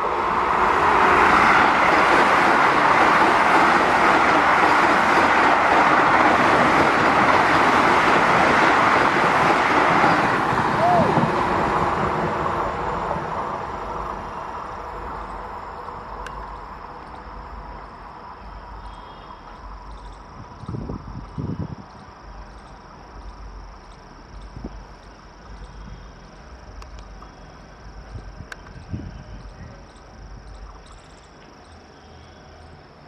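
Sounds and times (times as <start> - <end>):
electric train rushing: 0.0 - 33.0
insects chirping: 0.0 - 33.0.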